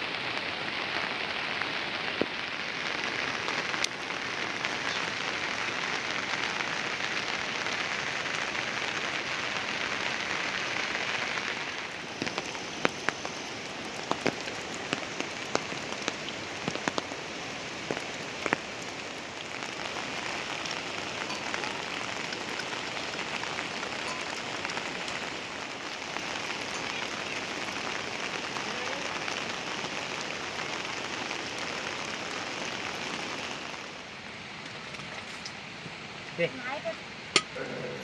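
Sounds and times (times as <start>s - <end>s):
heavy rain: 0.0s - 38.0s
sharp drips: 2.2s - 33.9s.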